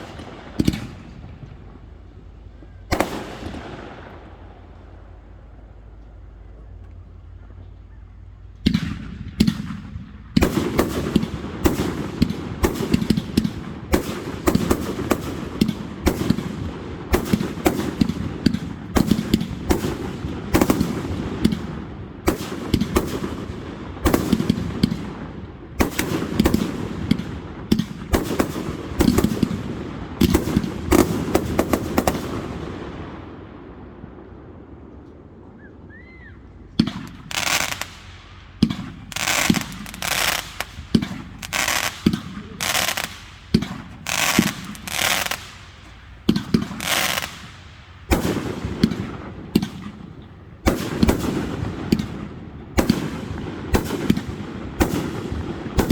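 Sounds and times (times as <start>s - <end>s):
fireworks bangs and crackling: 0.0s - 5.8s, 8.5s - 35.3s, 36.7s - 55.9s.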